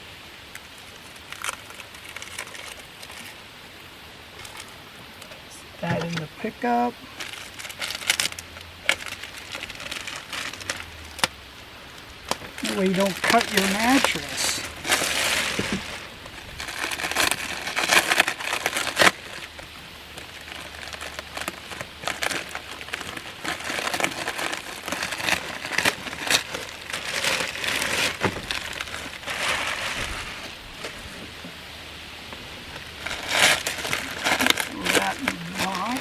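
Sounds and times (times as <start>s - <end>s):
plastic wrapping crinkling: 0.5s - 3.5s, 4.3s - 31.4s, 32.2s - 36.0s.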